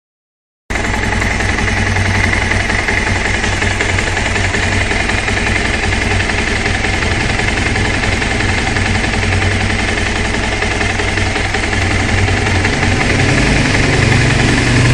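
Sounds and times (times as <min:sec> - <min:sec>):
motorcycle engine idling: 0:00.7 - 0:14.9.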